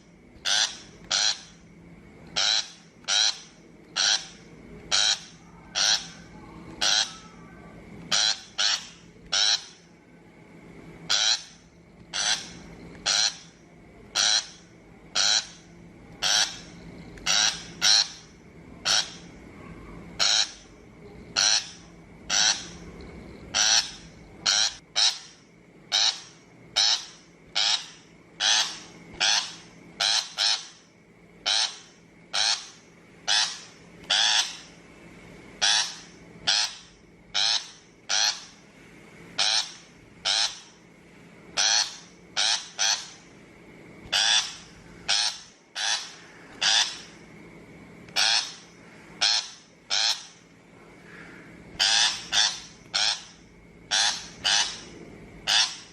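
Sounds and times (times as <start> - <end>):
shrike harsh rasping calls: 0.4 - 1.6, 2.3 - 10.0, 11.0 - 34.8, 35.6 - 38.6, 39.4 - 40.9, 41.5 - 43.3, 44.0 - 47.3, 48.1 - 55.9.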